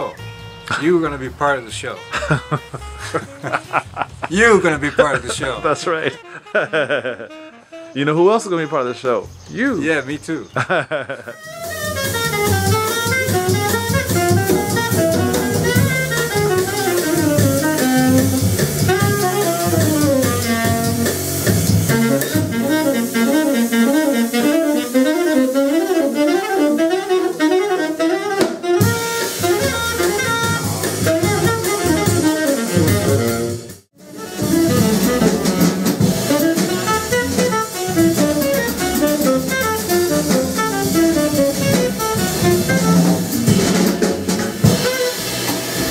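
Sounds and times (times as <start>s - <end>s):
drum kit: 0.0s - 8.2s, 9.3s - 45.9s
tenor saxophone melody: 0.0s - 9.7s, 11.3s - 45.9s
walking upright bass: 0.0s - 10.5s, 11.3s - 45.9s.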